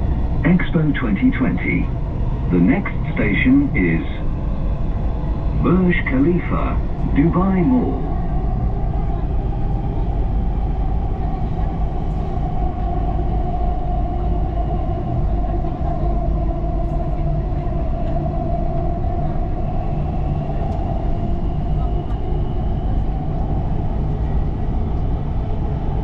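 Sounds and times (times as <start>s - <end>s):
higher whine: 0.0s - 26.0s
steady whine: 0.0s - 26.0s.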